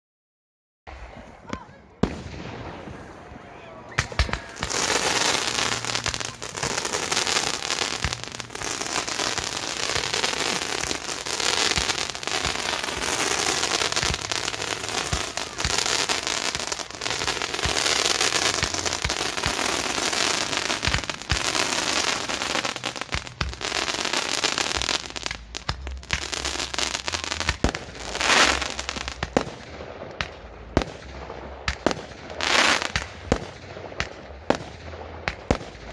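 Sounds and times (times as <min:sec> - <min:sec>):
fireworks cracking and crackling: 0:00.9 - 0:35.9
fireworks hissing bursts: 0:01.0 - 0:35.9.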